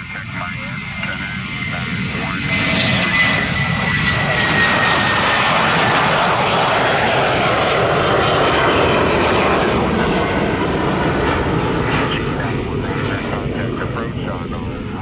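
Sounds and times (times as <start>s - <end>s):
jet engine roar with whine: 0.0s - 15.0s.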